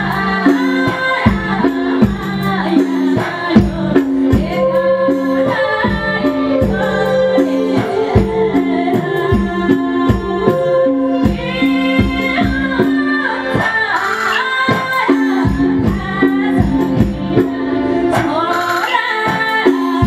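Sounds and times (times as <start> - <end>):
steady percussion beat: 0.0 - 20.0
woman singing into microphone: 0.0 - 20.0.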